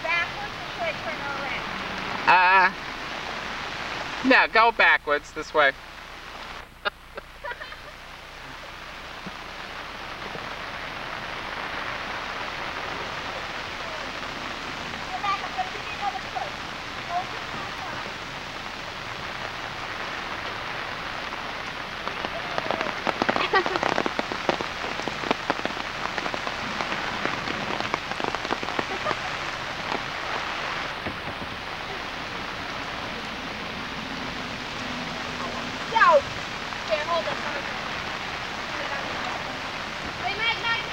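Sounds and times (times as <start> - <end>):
rain falling on flooded street: 0.0 - 40.9.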